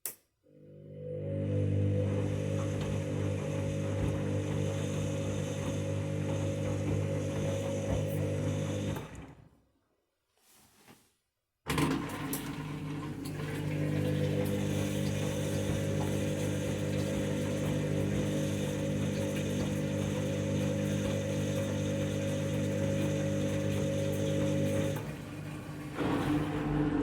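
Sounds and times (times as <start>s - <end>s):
washing machine draining hum: 0.5s - 9.5s, 11.7s - 27.0s.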